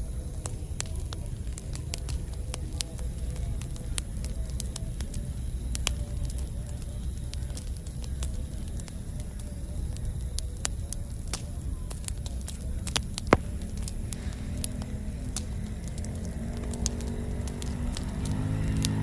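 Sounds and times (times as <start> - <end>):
low rumble of flame: 0.0 - 19.0
wood crackling and popping: 0.0 - 19.0.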